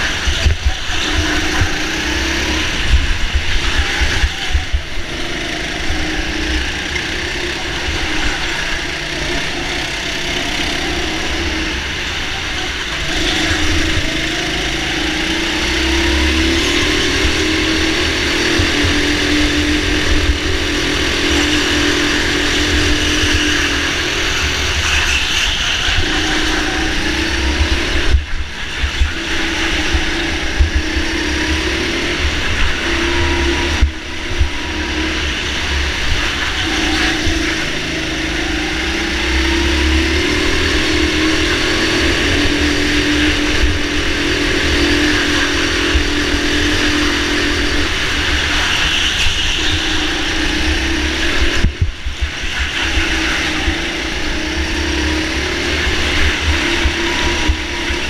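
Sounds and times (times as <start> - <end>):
go-kart motor: 0.0 - 58.0.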